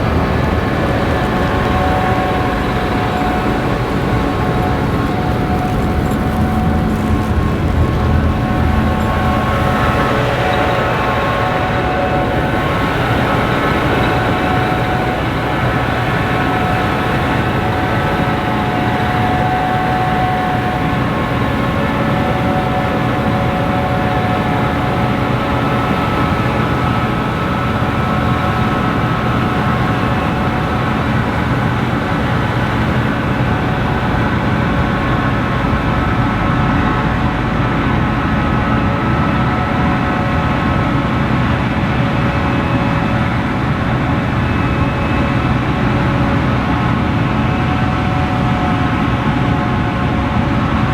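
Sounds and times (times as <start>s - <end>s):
combine harvester drone: 0.0s - 50.9s
machinery whining tones: 0.0s - 50.9s.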